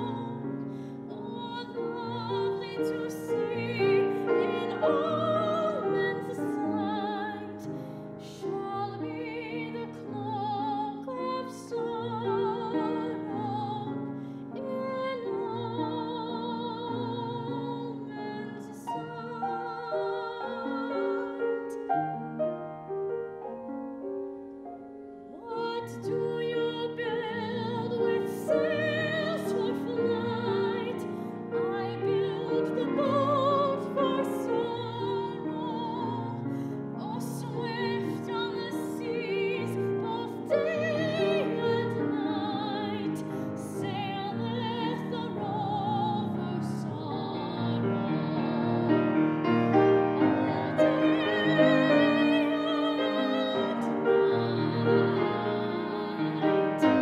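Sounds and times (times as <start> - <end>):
grand piano: 0.0 - 57.0
soprano singing: 0.0 - 57.0.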